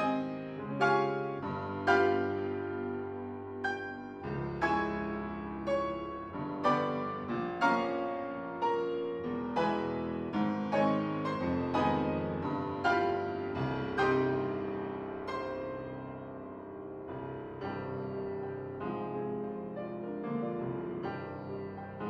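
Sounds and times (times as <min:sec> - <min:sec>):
slow classical piano piece: 0:00.0 - 0:22.0.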